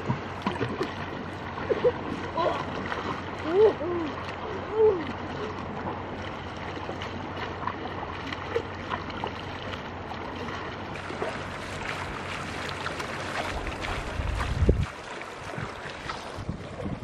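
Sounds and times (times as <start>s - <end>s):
faint water splashes: 0.0s - 17.0s
small waves washing on beach: 0.0s - 17.0s.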